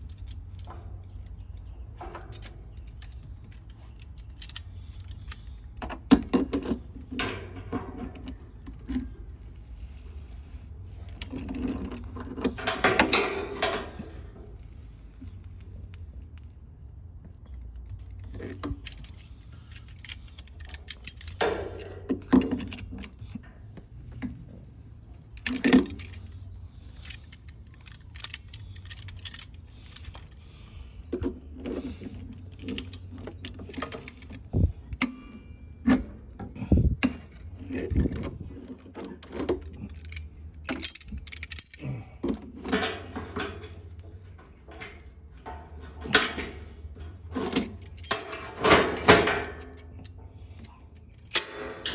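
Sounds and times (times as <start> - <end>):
metal tools clinking and scraping: 0.0 - 51.9
steady low hum: 0.0 - 51.9.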